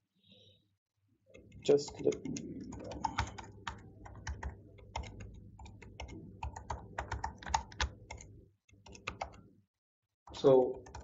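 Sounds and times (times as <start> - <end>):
laptop keyboard typing: 1.3 - 9.5, 10.3 - 11.0.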